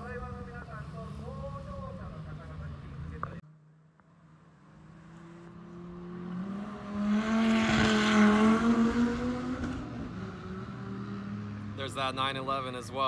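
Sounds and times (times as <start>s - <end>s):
sports car engine driving past: 0.2s - 12.8s.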